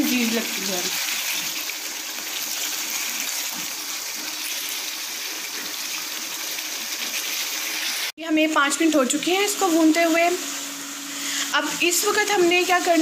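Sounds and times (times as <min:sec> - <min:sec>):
meat sizzling in oil: 0:00.0 - 0:11.2.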